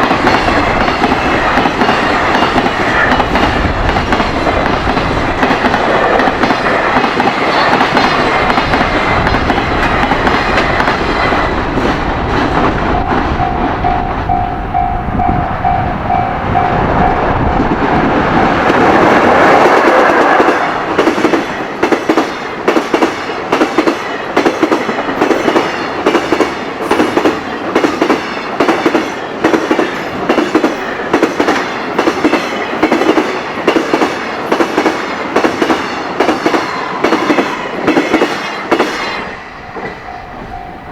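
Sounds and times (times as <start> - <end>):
freight train rumble: 0.0 - 40.9.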